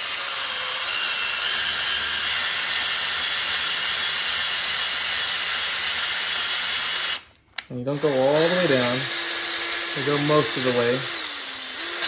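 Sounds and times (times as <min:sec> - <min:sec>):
cordless drill whining: 0:00.0 - 0:07.3, 0:07.9 - 0:12.0.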